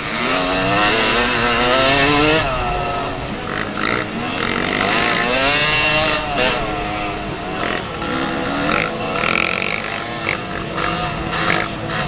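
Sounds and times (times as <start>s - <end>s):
two-stroke dirt bike engine revving: 0.0s - 12.0s.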